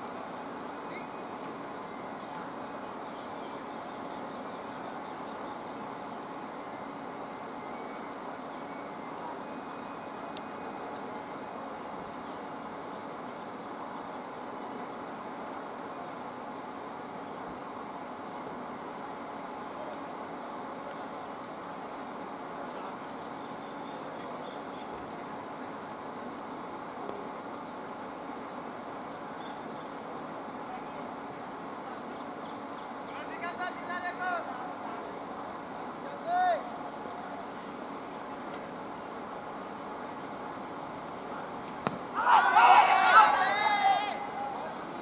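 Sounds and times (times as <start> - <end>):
low outdoor hum: 0.0 - 45.0.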